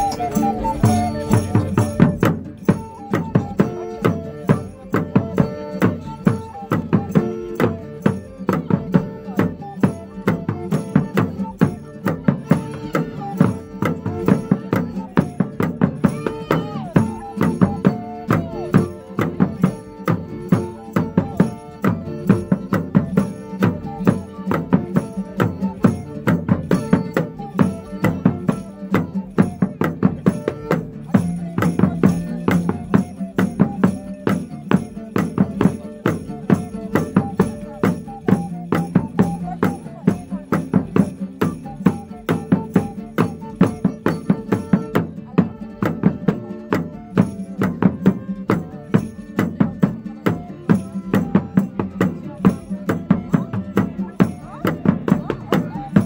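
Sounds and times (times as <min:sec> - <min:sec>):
plucked lute instruments: 0:00.0 - 0:56.0
wooden drum beat: 0:00.0 - 0:56.0
wooden pipes melody: 0:00.0 - 0:56.0.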